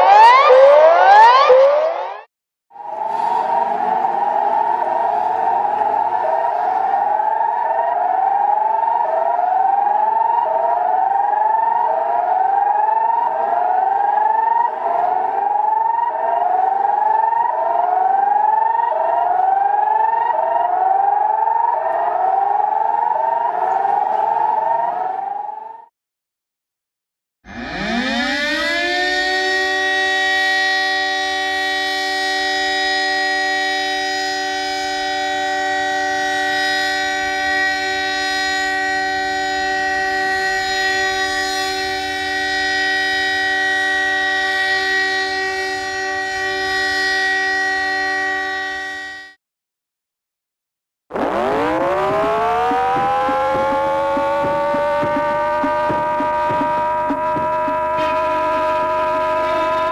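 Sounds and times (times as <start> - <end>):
alarm siren winding up slowly: 0.0 - 25.9, 27.5 - 49.4, 51.1 - 59.9
alert siren two steady pitches: 0.0 - 25.9, 27.4 - 49.4, 51.1 - 59.9.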